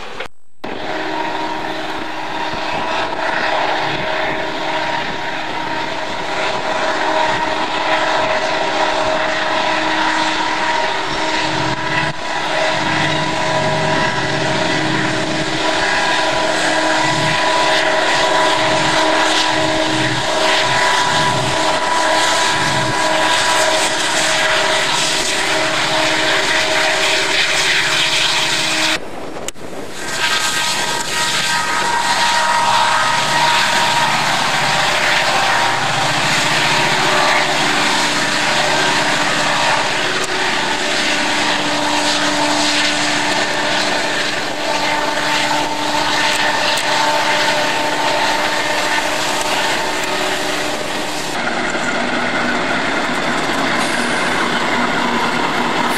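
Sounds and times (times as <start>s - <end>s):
locomotive engine drone with whine: 0.0s - 55.9s.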